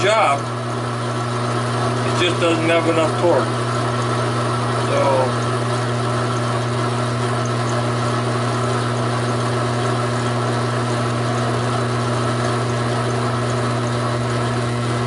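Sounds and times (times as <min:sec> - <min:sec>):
lathe motor humming and bogging: 0:00.0 - 0:15.0.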